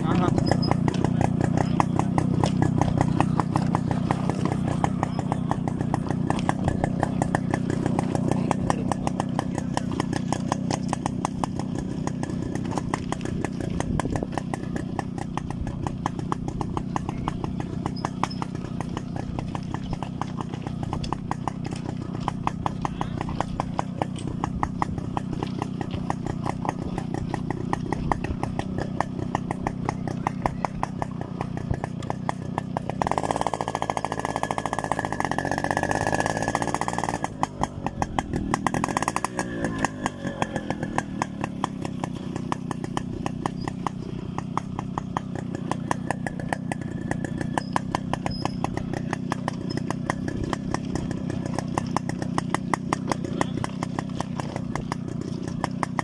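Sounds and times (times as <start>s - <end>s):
two-stroke motorcycle engine popping: 0.0s - 56.0s.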